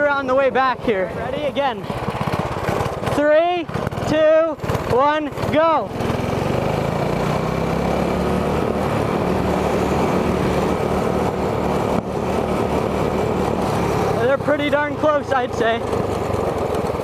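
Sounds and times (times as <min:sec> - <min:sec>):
go kart engine at full throttle: 0:00.0 - 0:17.0.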